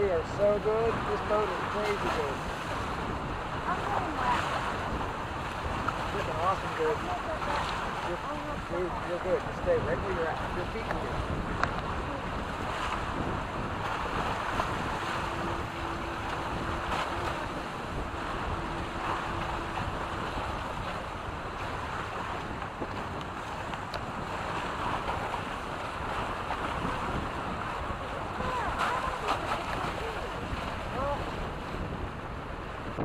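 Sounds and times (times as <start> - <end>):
water rushing along hulls: 0.0 - 33.0
wind buffeting microphone: 0.0 - 33.0.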